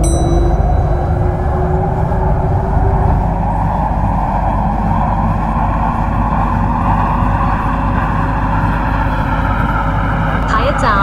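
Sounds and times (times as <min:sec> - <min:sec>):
motor whine rising in pitch: 0:00.0 - 0:10.6
steady tone: 0:00.0 - 0:11.0
train wheels rumbling: 0:00.0 - 0:11.0.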